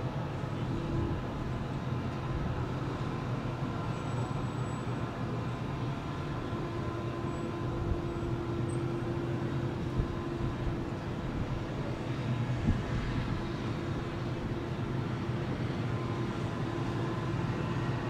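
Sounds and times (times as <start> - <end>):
city background noise: 0.0 - 18.0
passing train rumble: 0.0 - 18.0.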